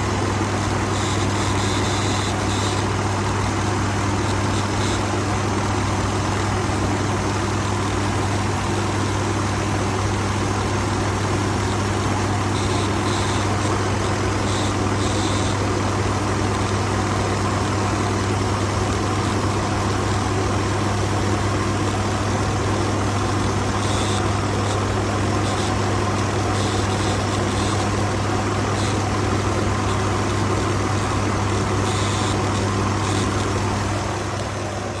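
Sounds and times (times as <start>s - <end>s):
higher-pitched engine bursts: 0.0s - 35.0s
truck engine idling: 0.0s - 35.0s.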